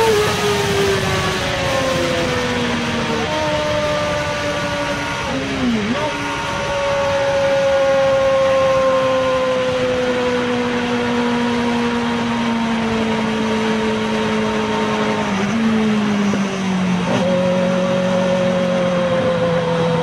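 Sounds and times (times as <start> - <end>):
small car engine whining: 0.0 - 20.0
wind and road noise: 0.0 - 20.0.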